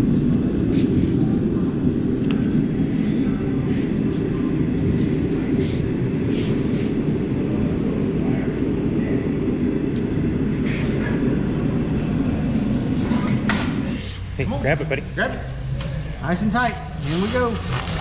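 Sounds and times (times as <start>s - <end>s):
forge burner rushing: 0.0s - 18.0s.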